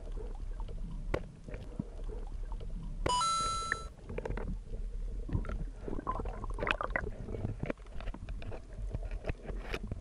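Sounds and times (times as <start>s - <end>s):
underwater rumble of moving water: 0.0s - 3.0s, 4.0s - 10.0s.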